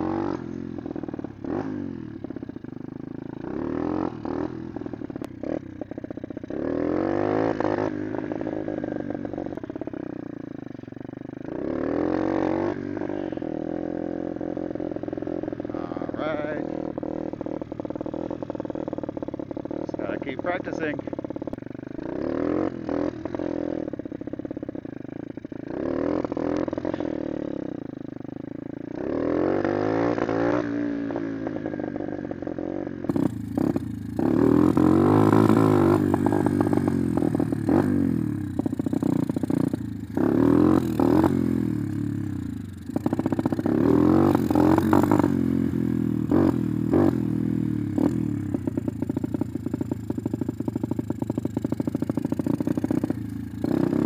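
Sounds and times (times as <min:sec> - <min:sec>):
dirt bike engine revving: 0:00.0 - 0:02.6, 0:03.3 - 0:09.9, 0:11.4 - 0:24.4, 0:25.4 - 0:27.8, 0:28.9 - 0:31.8, 0:33.1 - 0:54.0.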